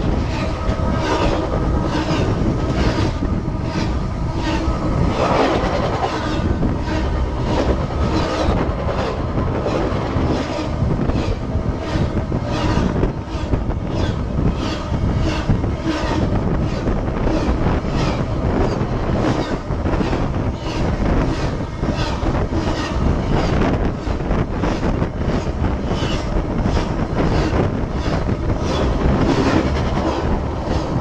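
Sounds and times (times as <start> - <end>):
train cars rumbling over track: 0.0 - 31.0.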